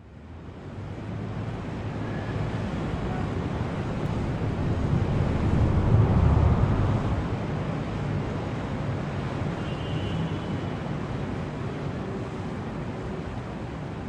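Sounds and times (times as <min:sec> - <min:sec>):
rushing wind-like noise: 0:00.0 - 0:14.0.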